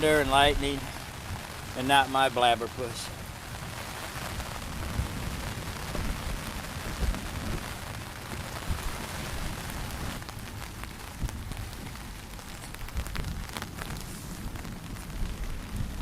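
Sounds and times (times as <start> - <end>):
rain on a tarp: 0.0 - 16.0.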